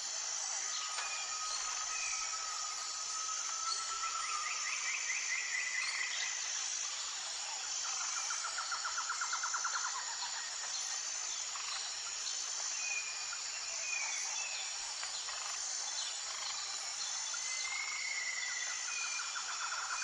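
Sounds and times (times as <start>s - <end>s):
insects trilling: 0.0s - 20.0s
soft outdoor hiss: 0.0s - 20.0s.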